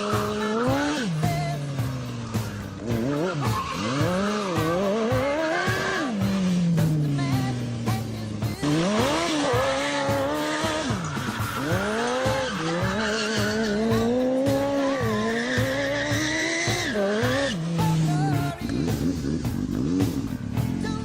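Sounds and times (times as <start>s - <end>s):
go-kart engine revving: 0.0s - 21.0s.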